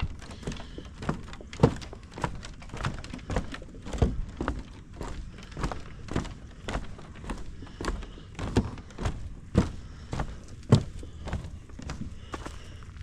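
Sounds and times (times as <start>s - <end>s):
footsteps on trail: 0.0s - 13.0s.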